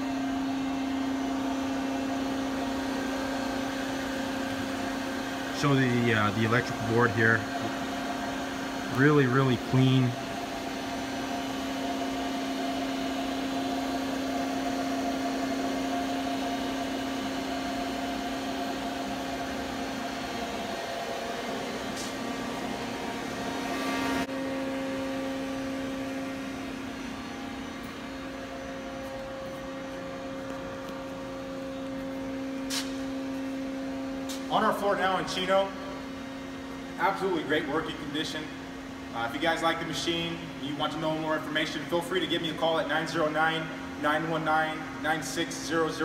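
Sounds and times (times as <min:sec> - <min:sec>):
machine humming: 0:00.0 - 0:46.0.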